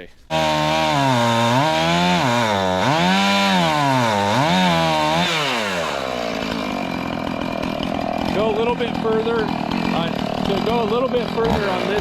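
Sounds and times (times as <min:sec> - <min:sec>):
chainsaw revving and idling: 0:00.3 - 0:12.0.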